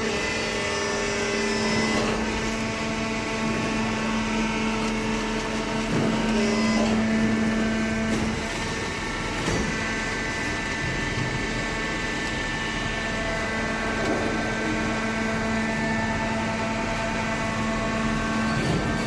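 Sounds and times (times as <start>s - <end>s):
hydraulic baler machine hum: 0.0s - 19.0s.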